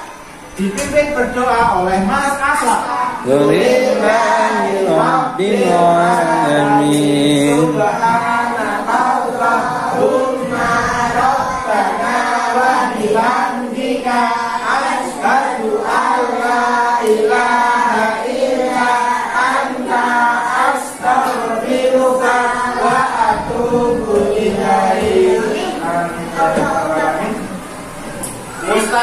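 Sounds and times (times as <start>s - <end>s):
children chanting in unison: 2.7s - 27.7s.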